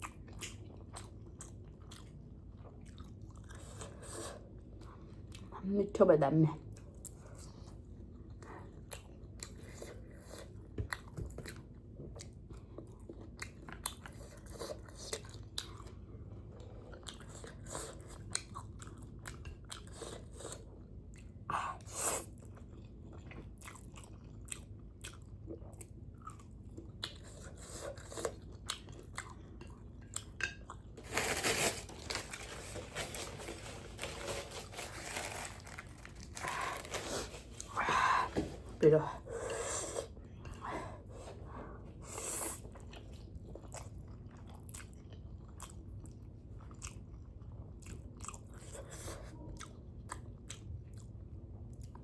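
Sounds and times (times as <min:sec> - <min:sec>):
person chewing noodles: 0:00.0 - 0:05.6, 0:06.7 - 0:38.4, 0:39.2 - 0:52.0.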